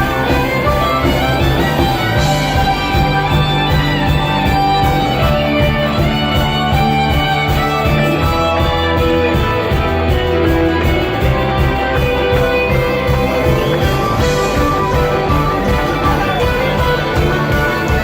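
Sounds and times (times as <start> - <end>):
band playing with guitars: 0.0 - 18.0.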